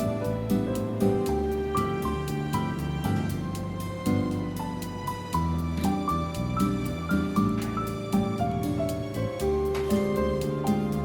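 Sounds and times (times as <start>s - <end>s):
light ticking beat: 0.0s - 11.0s
soft instrumental music: 0.0s - 11.0s.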